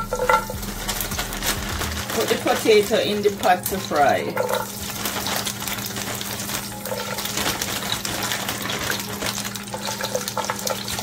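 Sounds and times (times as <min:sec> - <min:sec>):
fries sizzling in hot oil: 0:00.0 - 0:11.0.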